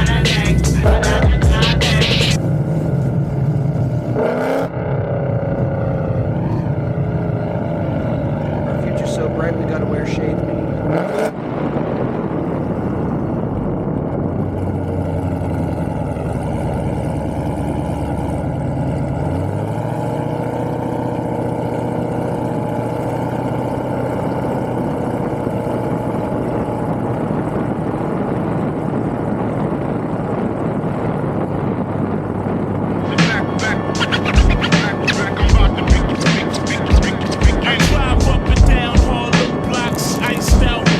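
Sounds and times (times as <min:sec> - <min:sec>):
car engine idling: 0:00.0 - 0:11.3, 0:12.2 - 0:40.9.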